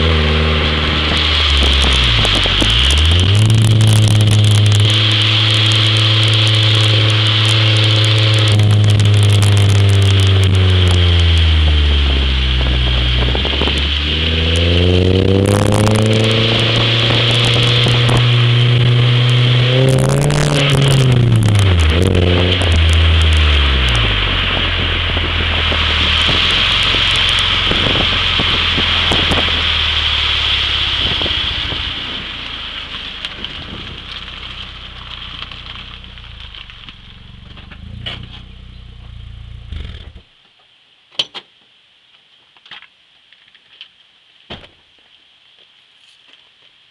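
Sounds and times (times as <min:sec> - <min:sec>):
car engine running: 0:00.0 - 0:40.3.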